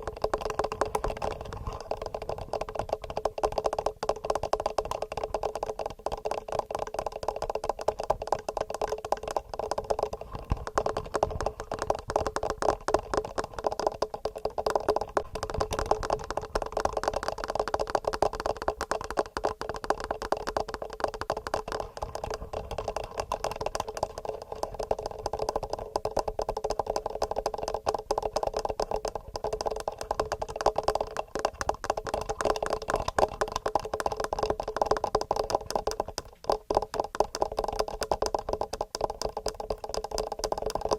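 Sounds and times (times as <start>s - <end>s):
fingernails tapping on microphones: 0.0s - 40.9s.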